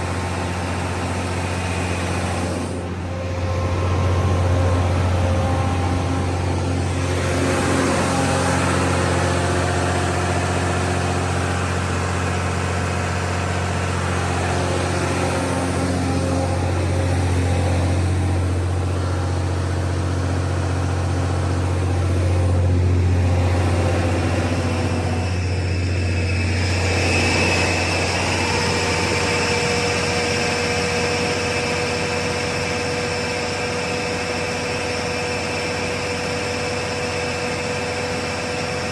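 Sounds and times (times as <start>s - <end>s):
diesel generator humming: 0.0s - 38.9s
high steady whine: 0.0s - 38.9s.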